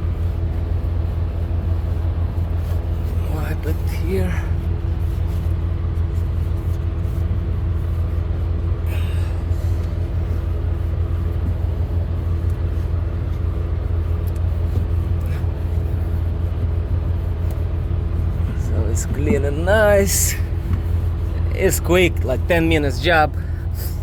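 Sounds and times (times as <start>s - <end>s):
large engine idling: 0.0s - 24.0s.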